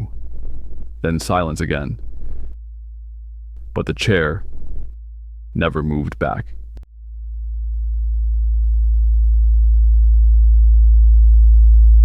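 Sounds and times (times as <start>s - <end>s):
synthesized low drone: 0.0s - 12.0s.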